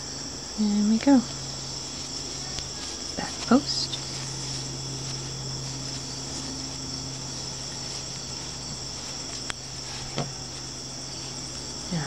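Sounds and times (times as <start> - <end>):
crickets chirping: 0.0 - 12.0
low steady hum: 0.0 - 12.0.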